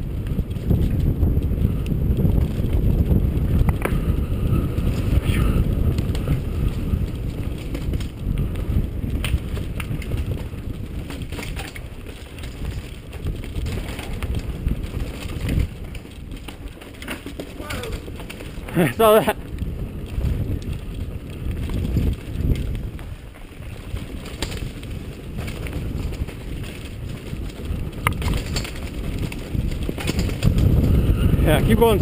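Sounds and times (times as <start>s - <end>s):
bike clicks and rattles: 0.0s - 32.0s
wind buffeting microphone: 0.0s - 32.0s.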